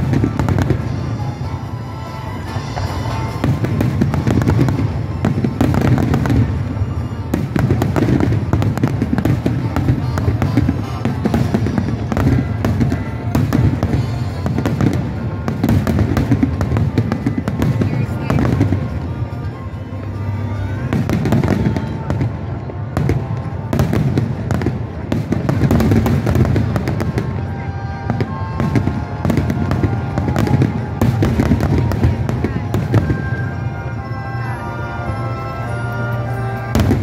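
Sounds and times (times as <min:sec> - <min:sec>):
fireworks bangs and crackling: 0:00.0 - 0:37.0
music playing: 0:00.0 - 0:37.0.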